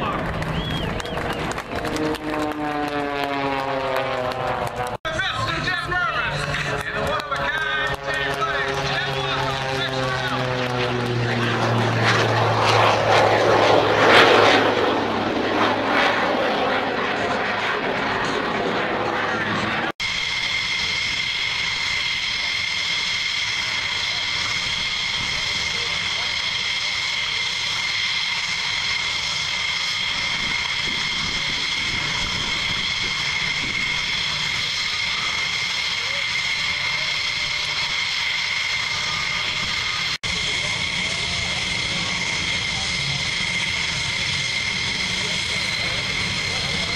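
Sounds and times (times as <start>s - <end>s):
small airplane engine passing: 0.0s - 46.9s.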